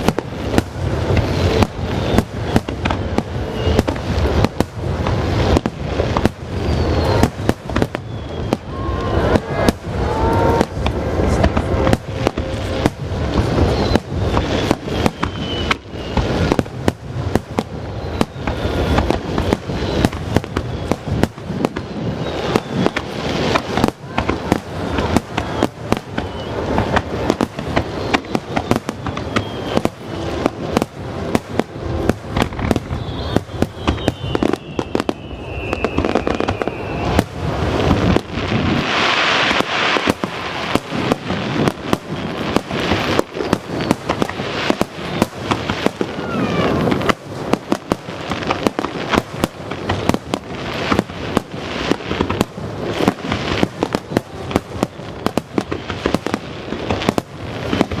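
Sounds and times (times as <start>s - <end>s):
crackling hiss: 0.0s - 58.0s
fireworks bursting: 0.0s - 58.0s
fireworks falling whistles: 0.0s - 58.0s.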